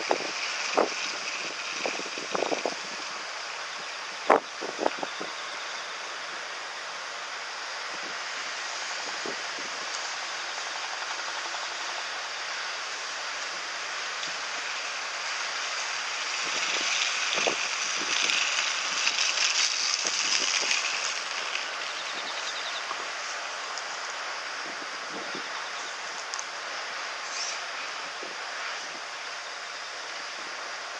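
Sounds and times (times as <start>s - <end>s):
wind hiss: 0.0s - 30.9s.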